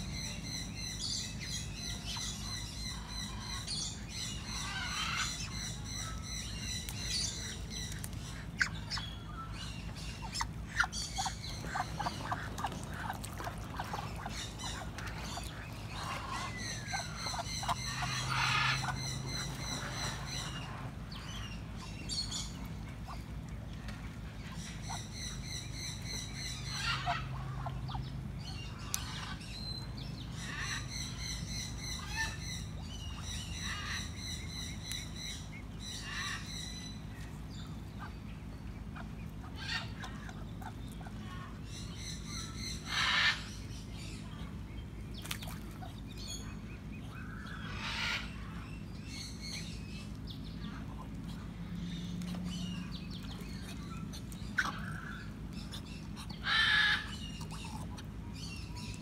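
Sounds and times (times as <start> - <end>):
harsh bird calls: 0.0 - 23.4, 24.5 - 59.0
low background noise: 0.0 - 59.0.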